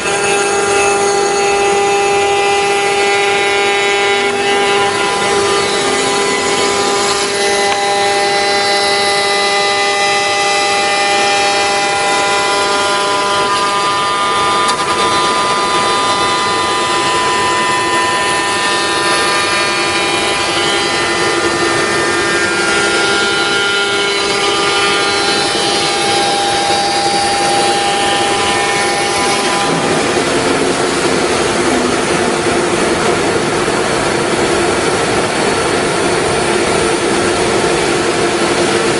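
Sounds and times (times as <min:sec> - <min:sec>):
router spindle cutting wood: 0:00.0 - 0:38.9.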